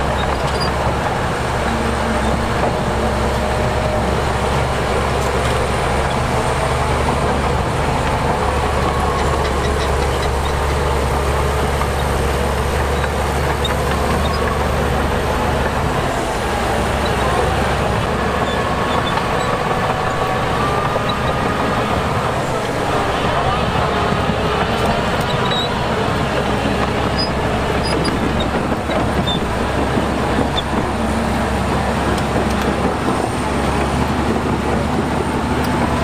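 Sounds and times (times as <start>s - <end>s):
heavy diesel machinery running: 0.0s - 36.0s.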